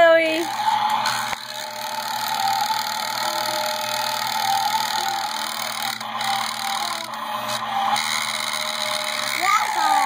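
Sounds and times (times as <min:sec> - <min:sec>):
toy electronic engine sound: 0:00.0 - 0:10.0.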